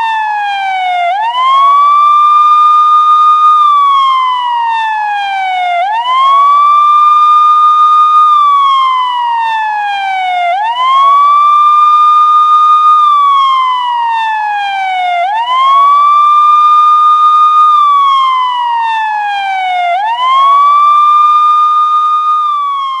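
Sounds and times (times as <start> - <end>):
police siren wailing: 0.0 - 23.0.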